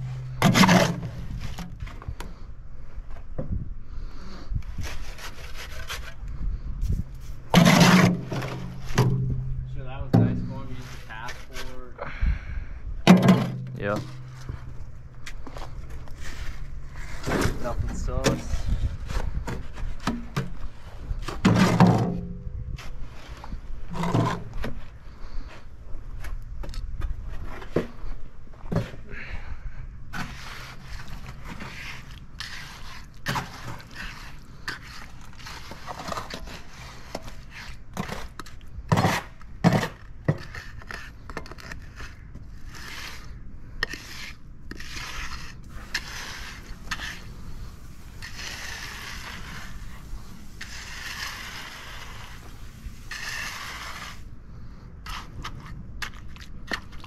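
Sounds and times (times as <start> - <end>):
float scraping wet concrete: 0.0 - 2.5, 3.9 - 26.4, 27.2 - 57.0.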